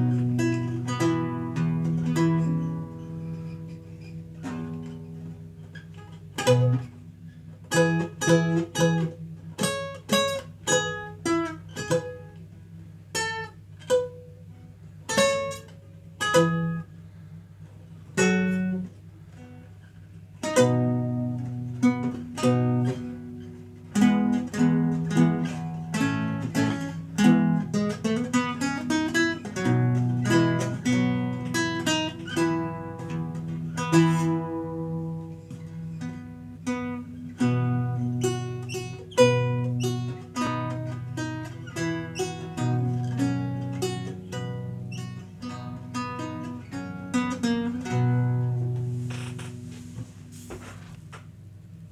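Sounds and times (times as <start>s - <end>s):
lute playing: 0.0s - 12.4s, 15.0s - 17.4s, 20.4s - 50.7s.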